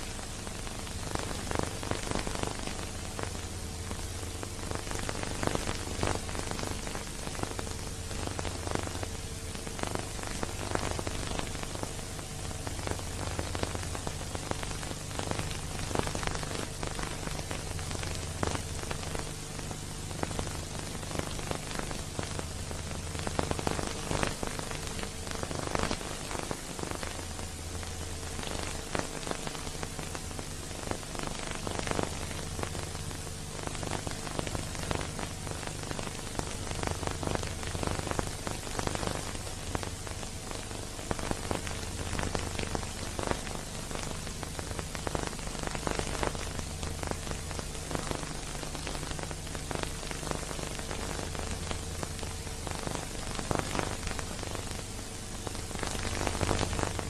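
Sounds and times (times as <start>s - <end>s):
film crackles: 0.0s - 57.0s
film surface hiss: 0.0s - 57.0s.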